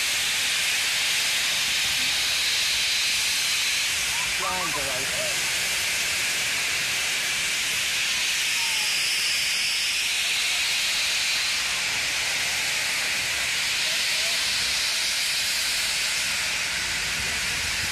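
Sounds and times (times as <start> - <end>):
loud steam hiss: 0.0 - 17.9
steam locomotive pulling away: 0.0 - 17.9.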